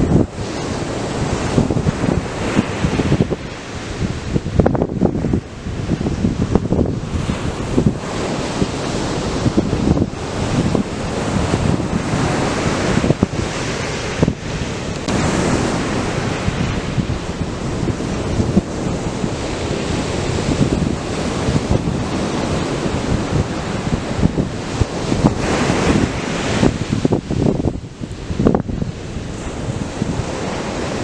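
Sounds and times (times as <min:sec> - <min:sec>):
surf breaking ashore: 0:00.0 - 0:31.0
wind buffeting microphone: 0:00.0 - 0:31.0.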